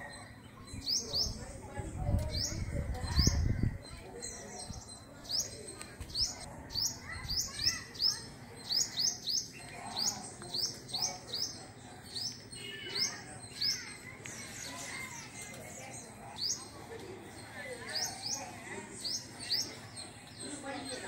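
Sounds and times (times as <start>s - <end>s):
small bird chirping: 2.1s - 21.0s.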